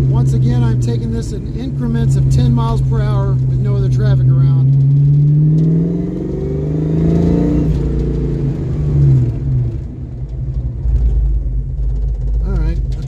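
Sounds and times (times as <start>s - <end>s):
car engine accelerating: 0.0s - 13.0s
road rumble: 0.0s - 13.0s.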